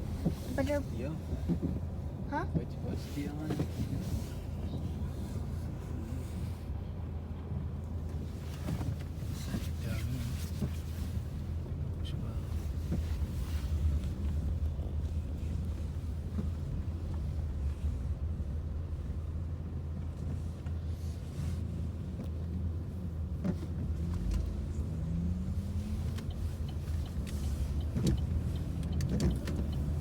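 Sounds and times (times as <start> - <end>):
car engine running: 0.0 - 30.0
road rumble: 0.0 - 30.0.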